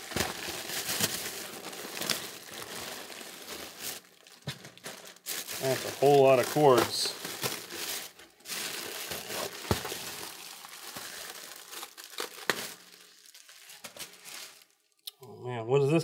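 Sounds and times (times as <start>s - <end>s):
plastic packing crinkling: 0.0s - 15.0s.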